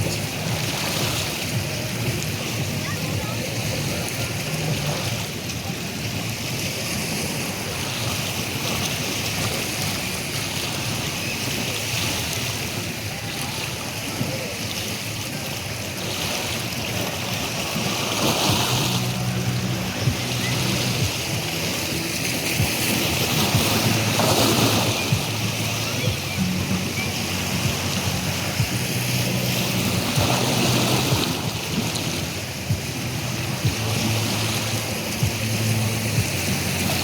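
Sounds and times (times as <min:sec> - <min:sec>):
sea waves washing: 0:00.0 - 0:37.0
wind noise on microphone: 0:00.0 - 0:37.0.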